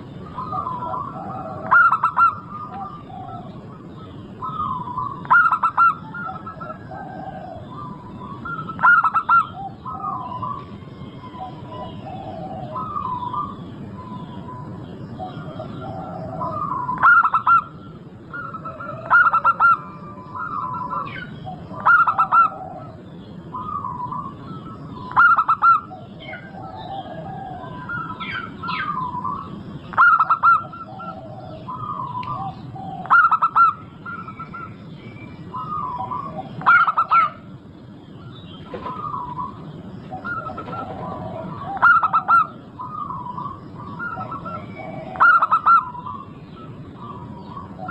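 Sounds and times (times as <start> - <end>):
doves cooing: 0.0 - 47.9
small birds chirping: 0.0 - 47.9.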